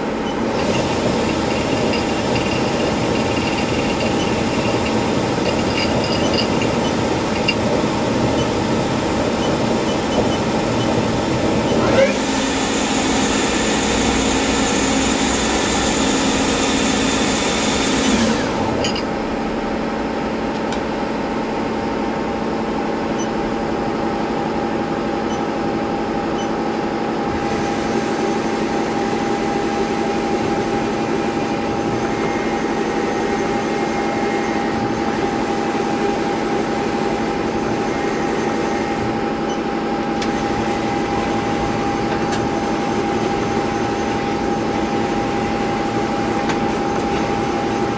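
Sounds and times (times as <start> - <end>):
lathe running with a whine: 0.0 - 20.4, 21.0 - 47.9.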